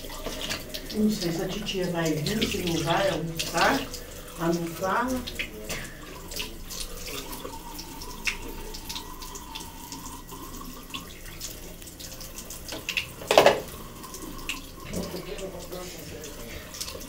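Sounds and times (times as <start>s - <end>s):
water running from sink tap: 0.0s - 17.0s.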